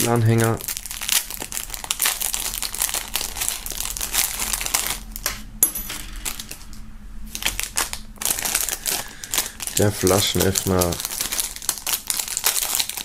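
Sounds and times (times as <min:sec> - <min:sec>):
plastic wrapping crinkling: 0:00.0 - 0:05.4, 0:06.0 - 0:13.0.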